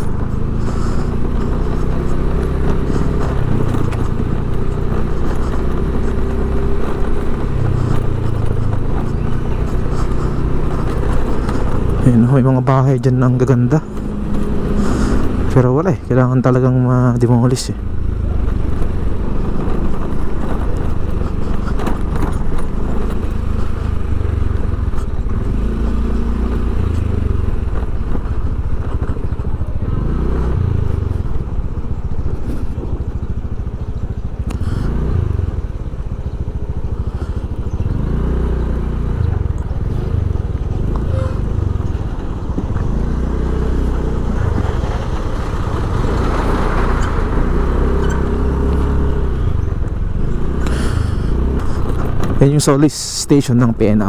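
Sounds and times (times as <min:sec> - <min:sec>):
road and wind noise: 0:00.0 - 0:54.0
vehicle engine revving: 0:00.0 - 0:54.0.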